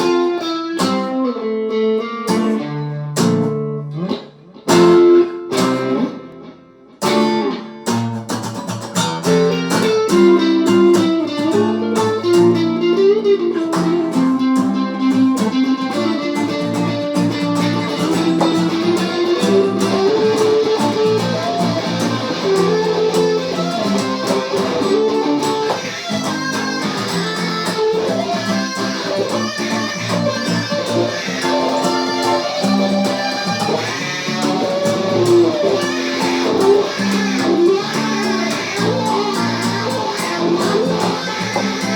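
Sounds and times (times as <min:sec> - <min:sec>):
guitar playing: 0:00.0 - 0:41.9.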